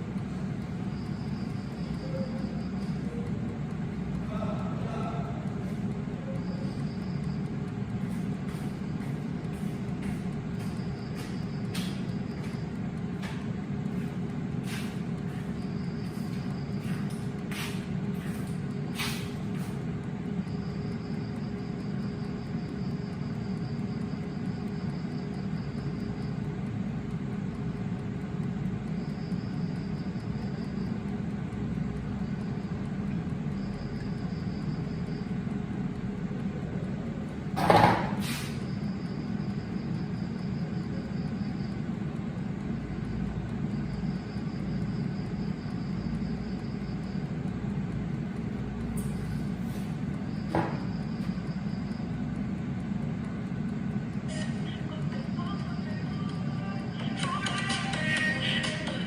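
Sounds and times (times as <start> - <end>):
faint high whine: 0.0 - 3.6, 4.2 - 59.0
air fryer fan hum: 0.0 - 59.0.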